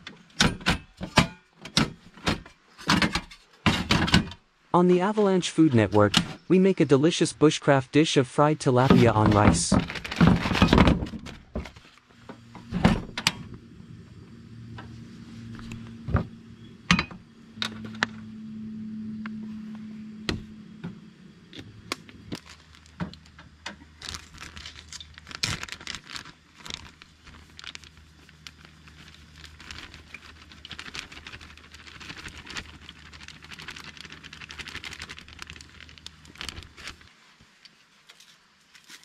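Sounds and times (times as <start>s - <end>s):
low background hum: 0.0s - 39.0s.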